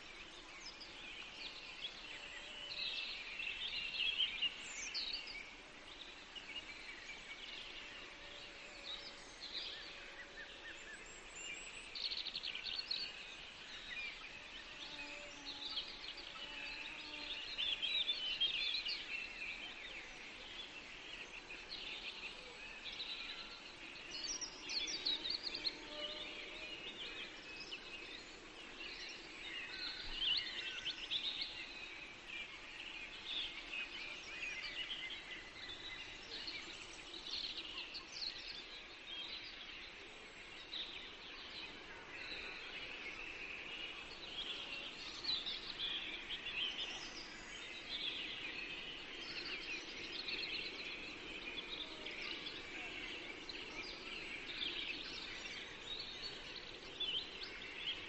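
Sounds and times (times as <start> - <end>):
faint background hiss: 0.0 - 58.0
songbirds chirping and trilling: 0.0 - 58.0.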